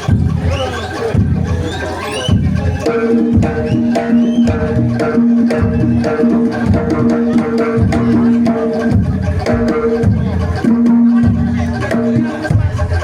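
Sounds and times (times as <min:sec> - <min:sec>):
clacking percussion: 0:00.0 - 0:13.0
held pitched notes: 0:00.0 - 0:13.0
quick hand drum strokes: 0:00.0 - 0:13.0.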